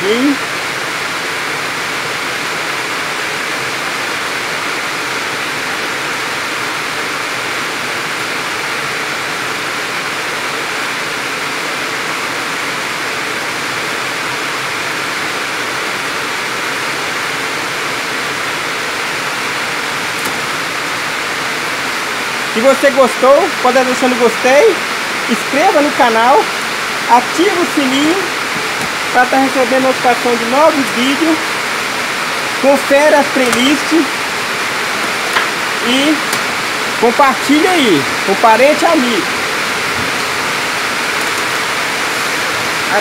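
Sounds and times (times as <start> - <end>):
steady rushing hiss: 0.0 - 43.0.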